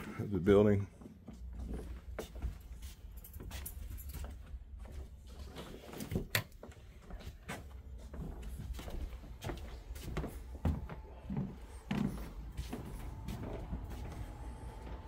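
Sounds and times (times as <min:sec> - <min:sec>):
footsteps walking: 0:00.9 - 0:15.0.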